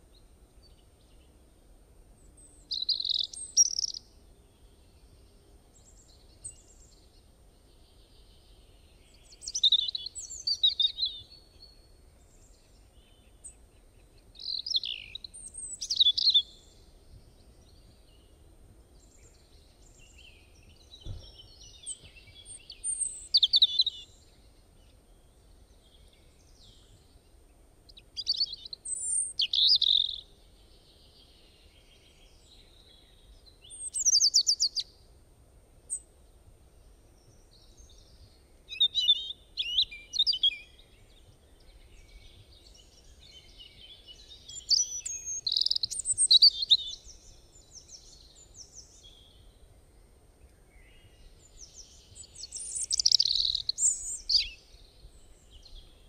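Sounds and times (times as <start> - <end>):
songbird chirping and trilling: 2.2 - 35.1, 35.9 - 56.0.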